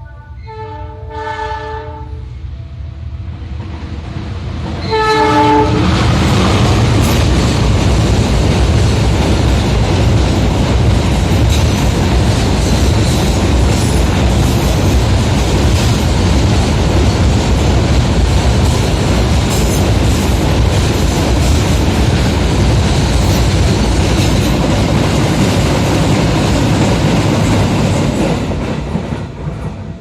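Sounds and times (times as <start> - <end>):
freight train passing: 0.0 - 30.0.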